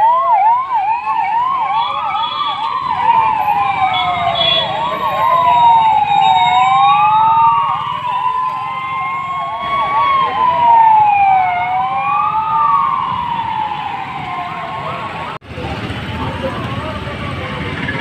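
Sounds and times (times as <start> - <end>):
police sirens wailing: 0.0 - 18.0
low rumble of vehicle engines: 0.1 - 18.0.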